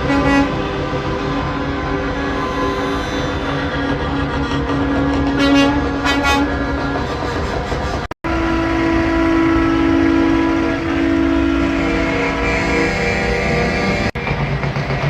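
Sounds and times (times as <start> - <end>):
train air horn blasts: 0.0 - 3.7, 4.8 - 7.4, 8.3 - 14.2.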